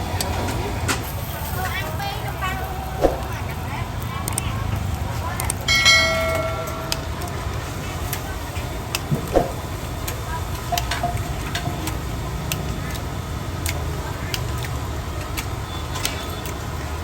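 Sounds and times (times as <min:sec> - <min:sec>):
faint voices: 0:00.0 - 0:17.0
traffic rumble: 0:00.0 - 0:17.0.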